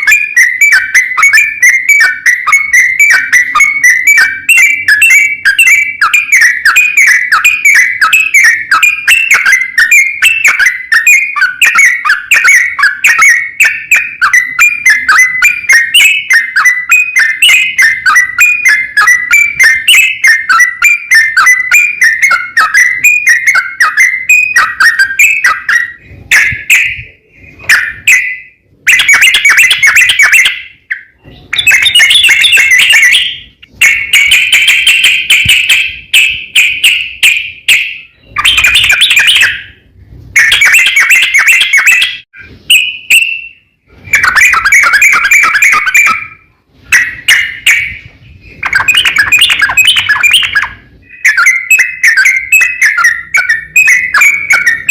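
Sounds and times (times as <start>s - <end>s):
bird singing rolling song: 0.0s - 54.9s.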